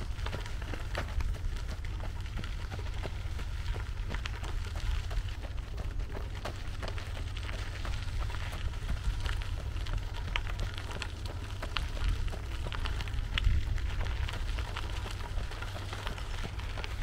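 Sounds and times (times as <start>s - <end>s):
gravel crunching: 0.0s - 17.0s
wind buffeting microphone: 0.0s - 17.0s.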